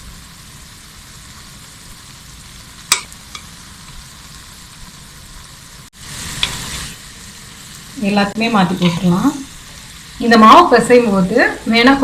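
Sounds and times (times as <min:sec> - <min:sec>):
batter sizzling in pan: 0:00.0 - 0:12.0.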